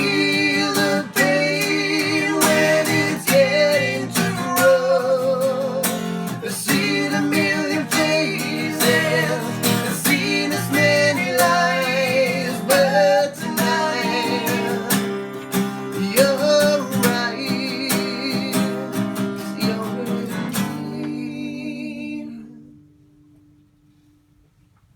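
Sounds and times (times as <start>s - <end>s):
person singing: 0.0s - 15.1s, 16.0s - 22.8s
acoustic guitar strumming: 0.0s - 21.7s.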